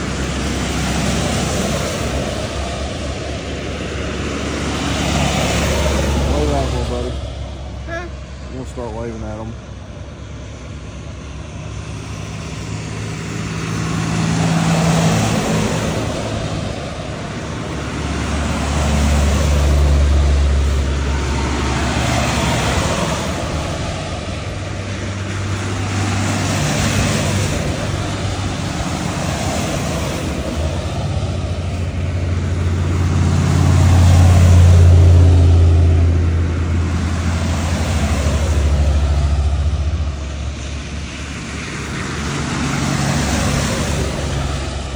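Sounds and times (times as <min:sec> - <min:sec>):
buses driving past: 0:00.0 - 0:44.9
low engine drone: 0:00.0 - 0:44.9.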